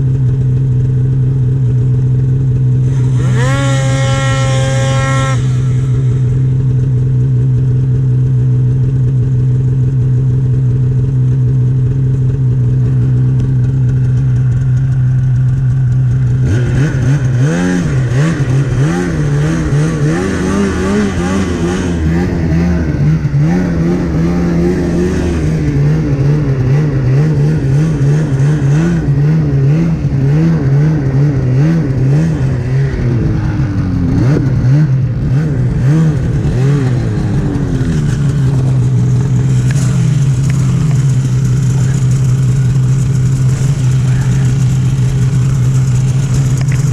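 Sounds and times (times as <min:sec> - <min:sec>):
snowmobile engine: 0:00.0 - 0:46.9.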